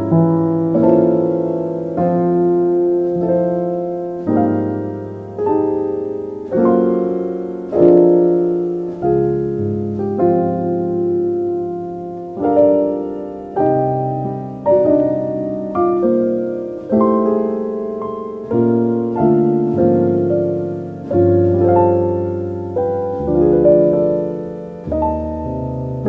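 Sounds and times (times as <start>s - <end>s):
slow solo piano music: 0.0s - 26.0s.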